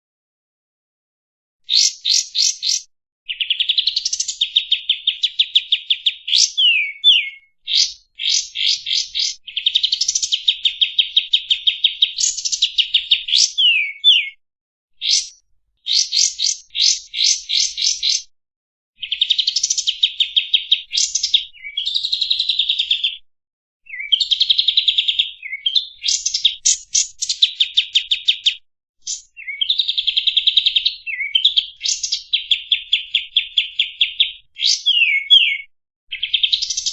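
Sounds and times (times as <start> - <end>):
bird singing trills and whistles: 1.7 - 14.4, 15.0 - 18.3, 19.0 - 23.2, 23.9 - 36.9.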